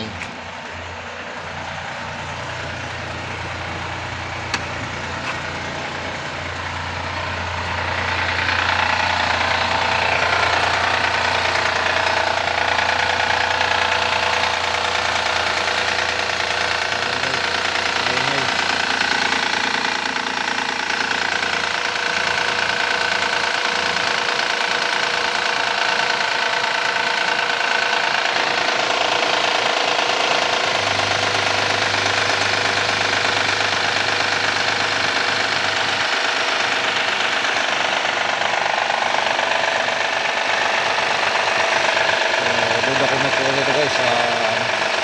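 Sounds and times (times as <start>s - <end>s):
car engine knocking rattle: 0.0s - 45.0s.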